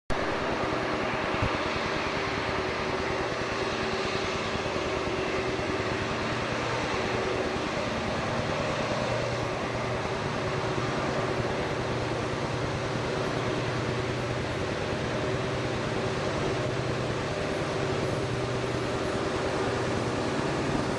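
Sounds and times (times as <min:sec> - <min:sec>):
diesel locomotives droning: 0:00.1 - 0:20.9.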